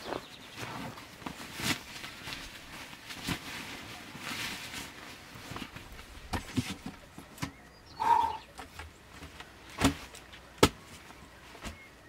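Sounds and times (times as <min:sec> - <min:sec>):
rustling of camping gear: 0:00.0 - 0:12.0.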